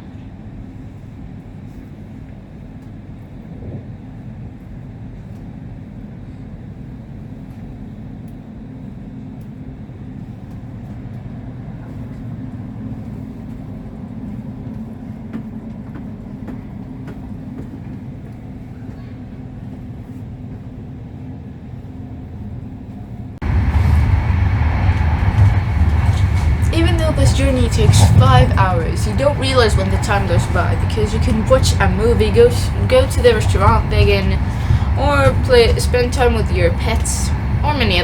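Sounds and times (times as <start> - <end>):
train rumble inside carriage: 0.0 - 38.0.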